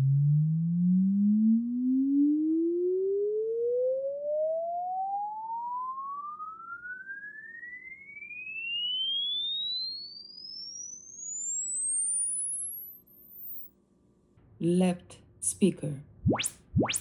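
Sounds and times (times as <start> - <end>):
sine wave test tone sweeping upward: 0.0 - 13.7, 16.3 - 17.0.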